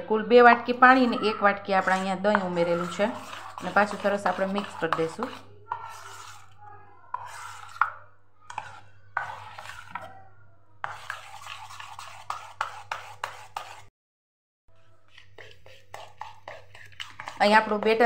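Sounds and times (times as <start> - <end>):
spoon scraping steel bowl: 0.6 - 10.2, 10.8 - 13.9, 14.8 - 18.0.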